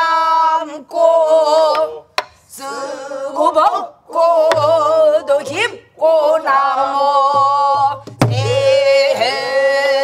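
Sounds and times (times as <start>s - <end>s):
people singing in unison: 0.0s - 10.0s.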